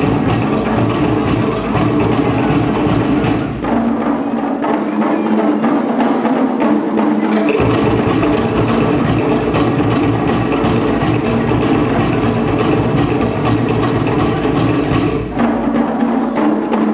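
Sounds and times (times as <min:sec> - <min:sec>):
dance music with wooden percussion: 0:00.0 - 0:16.9.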